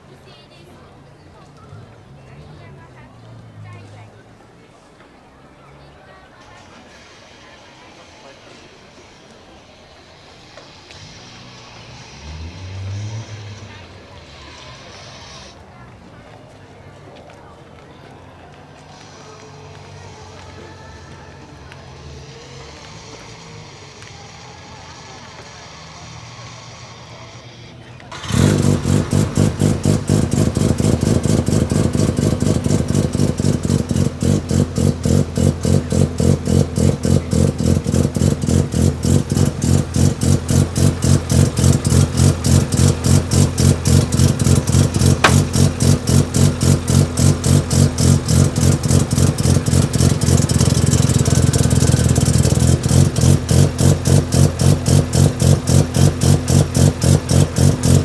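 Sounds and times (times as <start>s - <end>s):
rotary engine lumpy idle: 0.3s - 58.0s.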